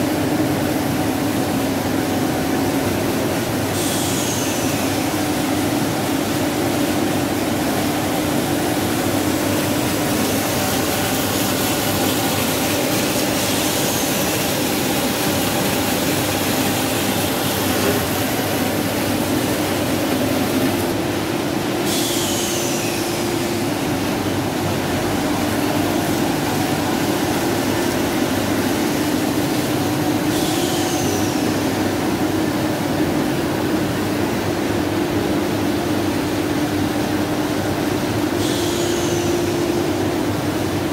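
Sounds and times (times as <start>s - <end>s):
printing press running: 0.0s - 40.9s.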